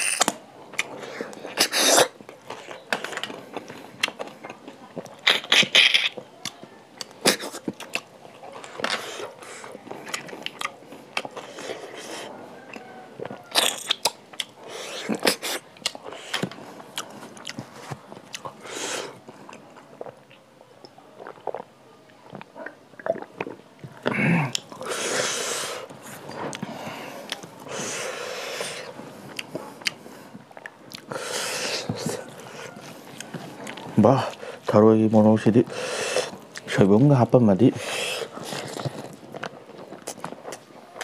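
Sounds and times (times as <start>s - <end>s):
wet chewing and crunching: 0.0s - 41.0s.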